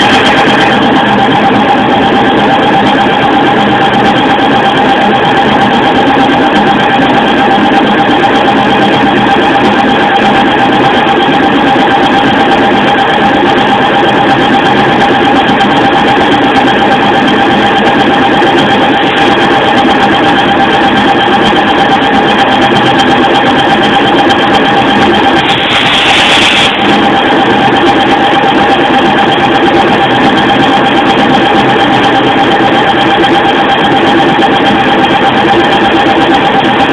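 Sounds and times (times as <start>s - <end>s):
lathe machine whine: 0.0s - 36.9s.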